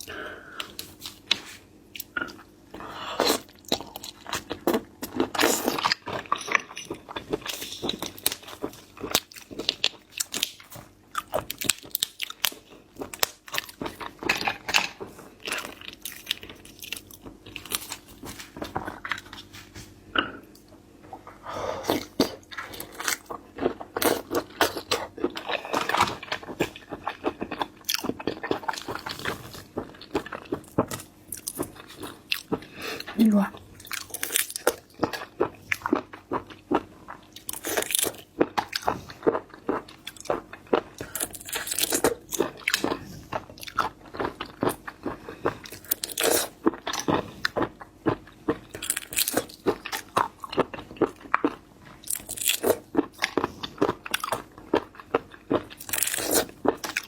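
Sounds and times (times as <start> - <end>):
crunching seafood: 0.0 - 57.0.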